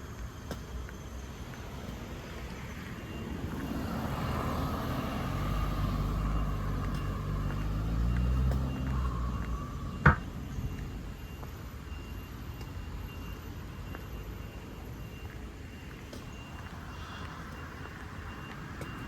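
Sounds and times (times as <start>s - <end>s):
engine low rumble: 0.0s - 19.0s
low traffic noise: 0.0s - 19.0s.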